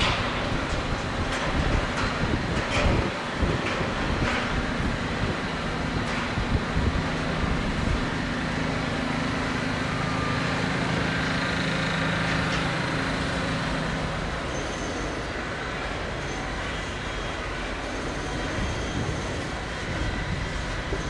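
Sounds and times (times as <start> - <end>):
city street traffic: 0.0 - 21.0
heavy vehicle engine running: 0.0 - 21.0.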